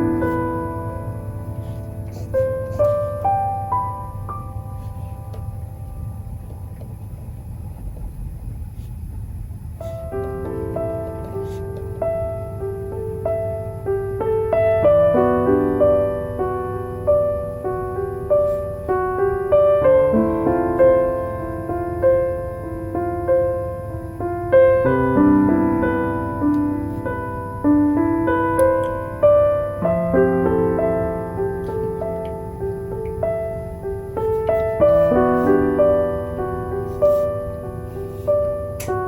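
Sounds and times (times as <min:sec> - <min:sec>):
gentle solo piano: 0:00.0 - 0:39.0.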